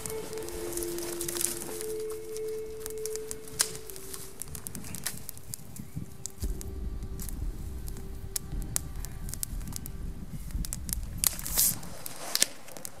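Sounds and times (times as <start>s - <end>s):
campfire crackling and popping: 0.0s - 13.0s
loud hiss: 0.0s - 13.0s.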